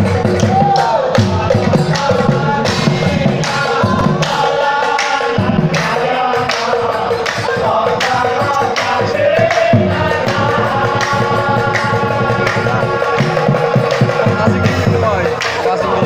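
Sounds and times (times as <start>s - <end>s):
drums beating: 0.0s - 16.0s
men chanting in chorus: 0.0s - 16.0s.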